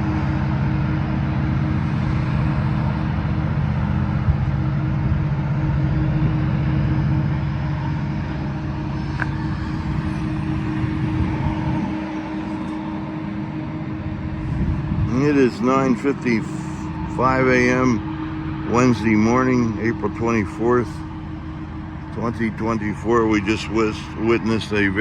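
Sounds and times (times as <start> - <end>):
diesel locomotive engine drone: 0.0 - 25.0.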